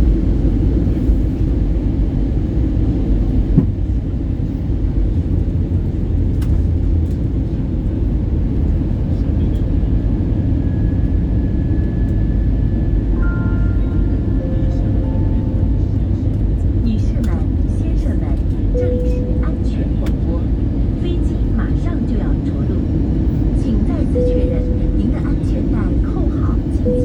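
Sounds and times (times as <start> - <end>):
airplane engine and airflow rumble: 0.0 - 27.0.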